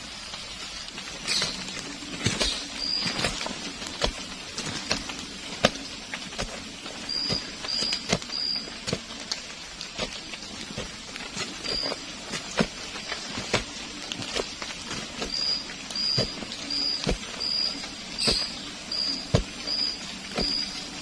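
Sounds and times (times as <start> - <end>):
rain falling: 0.0 - 21.0
raindrops tapping on shelter: 0.0 - 21.0.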